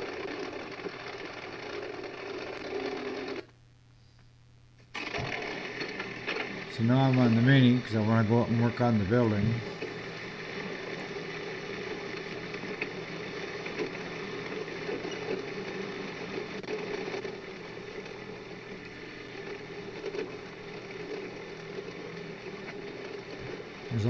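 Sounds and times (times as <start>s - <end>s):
excavator engine running: 0.0s - 3.4s, 5.0s - 24.0s.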